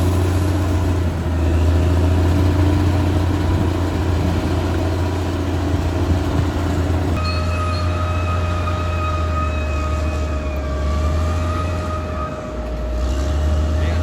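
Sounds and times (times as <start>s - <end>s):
bulldozer diesel engine droning: 0.0s - 14.0s.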